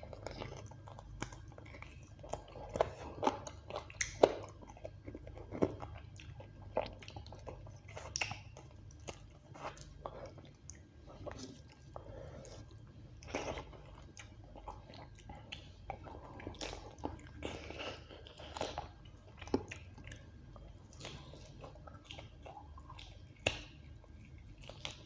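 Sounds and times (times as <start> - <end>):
wet chewing and lip smacks: 0.0 - 25.0.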